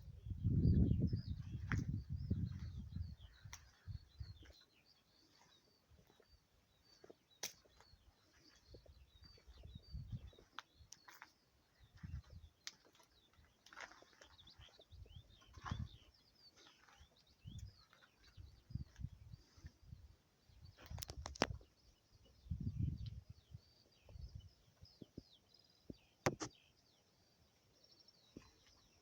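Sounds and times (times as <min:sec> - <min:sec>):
faint birds chirping: 0:00.0 - 0:29.0.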